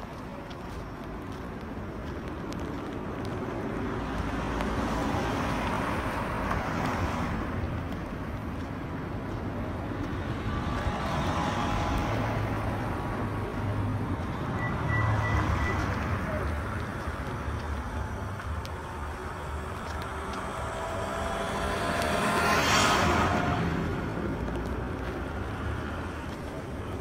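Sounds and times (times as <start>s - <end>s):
cars driving past: 0.5s - 27.0s.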